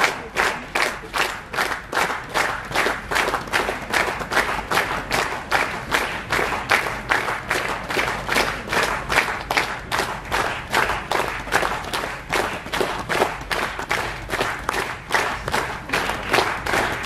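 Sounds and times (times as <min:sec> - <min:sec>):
crowd clapping in unison: 0:00.0 - 0:17.0.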